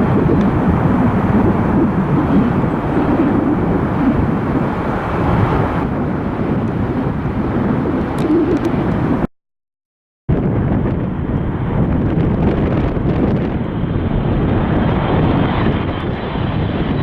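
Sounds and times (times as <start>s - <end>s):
jet engines rumbling: 0.0s - 9.3s, 10.3s - 17.0s.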